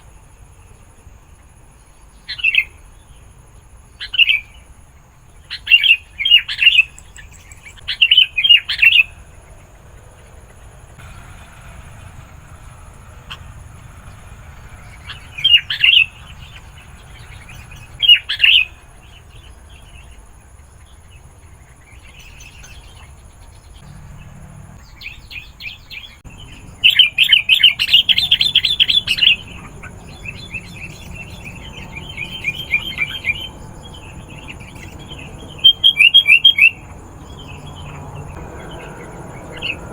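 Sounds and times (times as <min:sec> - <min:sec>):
bulbul singing: 0:05.6 - 0:20.2, 0:21.9 - 0:39.9.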